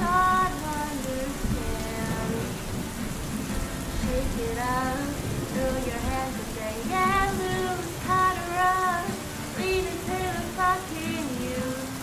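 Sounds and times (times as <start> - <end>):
woman singing: 0.0 - 2.8, 3.8 - 12.0
rain patter: 0.0 - 12.0.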